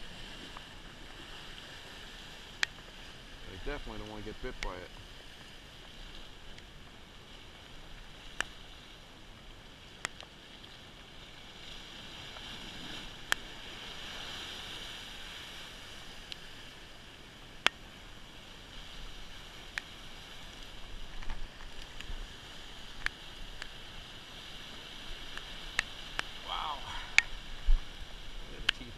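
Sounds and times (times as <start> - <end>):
surf breaking on rocky shore: 0.0 - 28.9.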